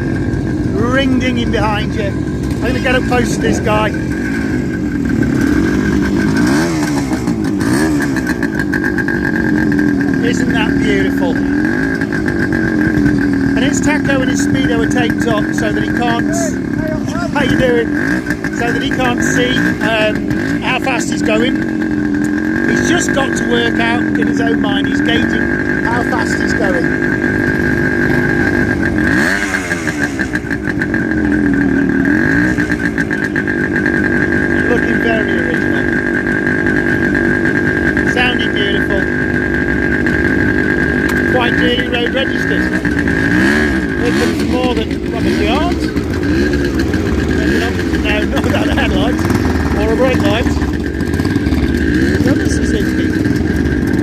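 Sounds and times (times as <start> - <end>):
motorcycle throttle blips: 0.0 - 54.0
two-stroke motorcycle engine idling: 0.0 - 54.0.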